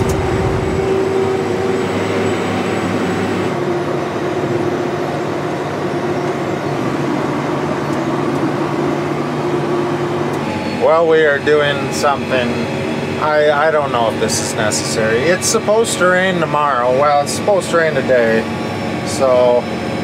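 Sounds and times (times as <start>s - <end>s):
steady whine: 0.0s - 20.0s
tractor engine drone: 0.0s - 20.0s.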